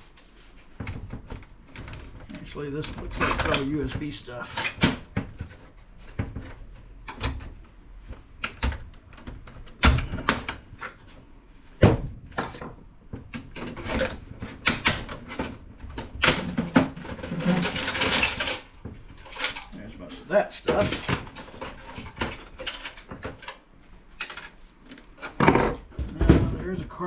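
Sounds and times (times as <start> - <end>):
plastic and metal parts clattering: 0.8 - 11.1, 11.8 - 27.0.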